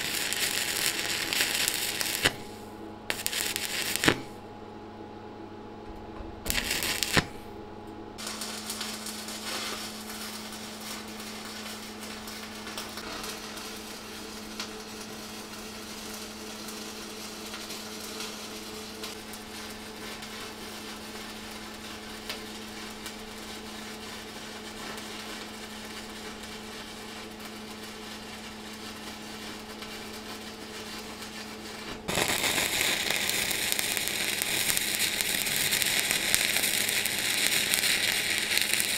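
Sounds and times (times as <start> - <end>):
welding arc crackling: 0.0 - 4.4, 6.4 - 7.4, 8.2 - 38.9.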